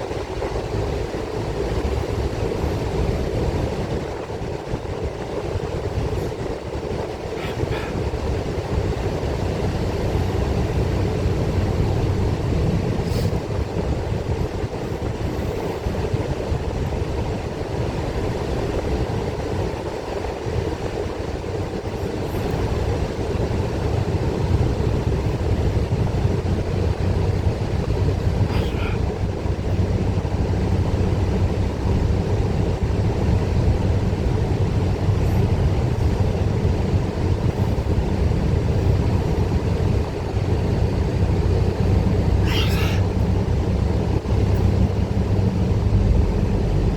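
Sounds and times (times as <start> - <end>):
bus engine and road drone: 0.0 - 46.9.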